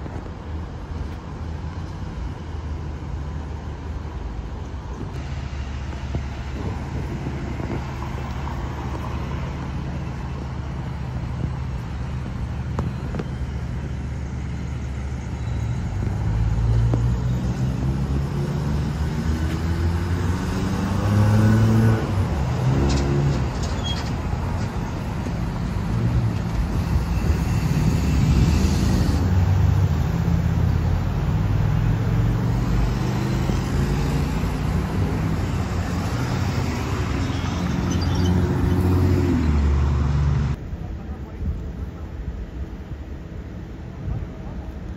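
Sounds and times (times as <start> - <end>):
road traffic passing: 0.0 - 44.9
vehicle engines accelerating: 3.3 - 40.6.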